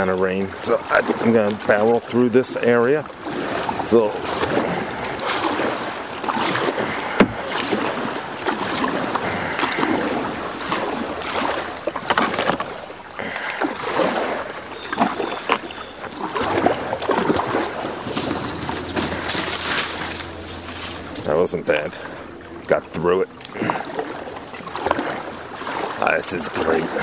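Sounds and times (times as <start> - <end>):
paddle strokes splashing: 0.0 - 27.0.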